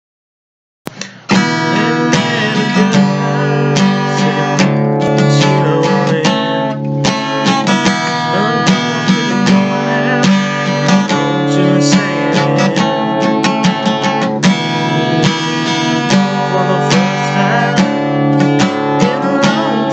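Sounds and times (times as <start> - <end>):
acoustic guitar strumming: 0.9 - 19.9.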